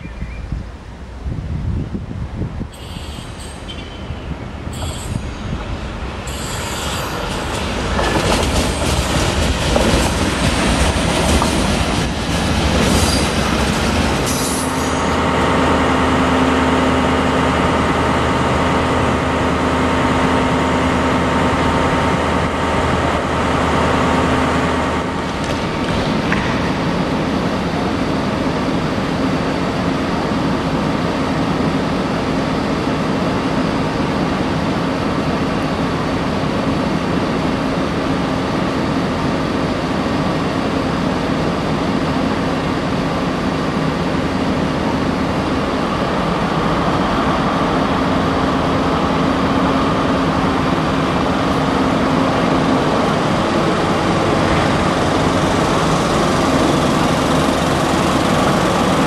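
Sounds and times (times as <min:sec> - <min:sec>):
diesel locomotive engine humming: 0:00.0 - 0:59.0
diesel train running on rails: 0:00.0 - 0:59.0
train coaches rolling on rails: 0:02.6 - 0:59.0.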